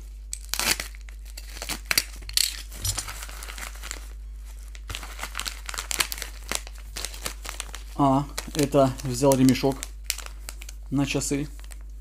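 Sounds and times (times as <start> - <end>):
plastic crinkling and tearing: 0.3 - 12.0.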